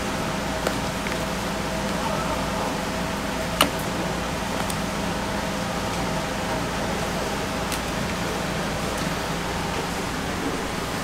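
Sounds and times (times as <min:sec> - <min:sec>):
kitchen machine hum and hiss: 0:00.0 - 0:11.0.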